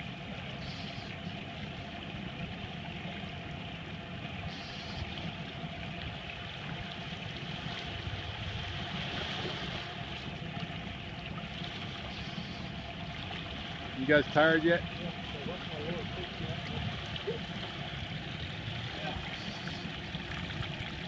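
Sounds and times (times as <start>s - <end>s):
boat engine idling: 0.0s - 21.0s
water sloshing along hull: 0.0s - 21.0s.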